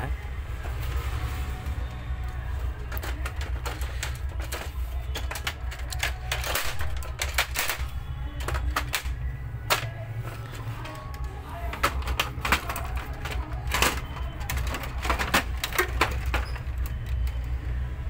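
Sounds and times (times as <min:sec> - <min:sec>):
clicks and knocks of parts handled: 0:01.6 - 0:17.8.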